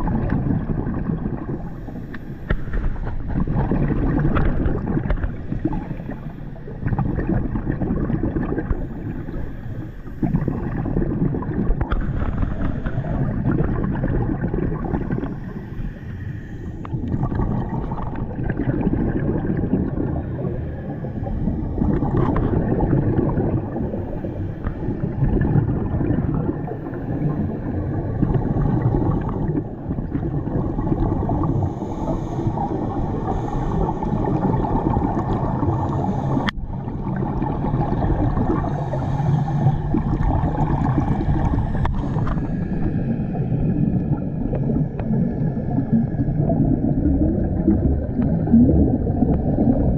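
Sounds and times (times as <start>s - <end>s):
scuba bubbles and water churning: 0.0s - 49.9s.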